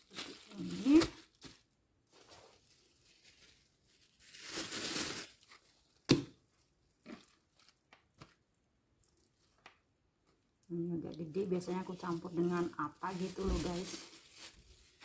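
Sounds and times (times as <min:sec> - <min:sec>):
plastic bag crinkling: 0:00.0 - 0:08.4, 0:11.2 - 0:15.0.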